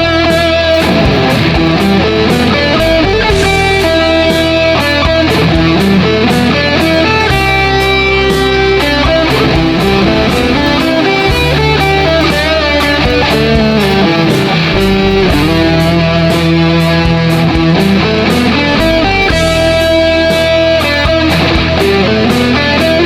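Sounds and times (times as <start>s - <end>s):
backing track with drums and bass: 0.0s - 23.0s
electric guitar lead lines: 0.0s - 23.0s.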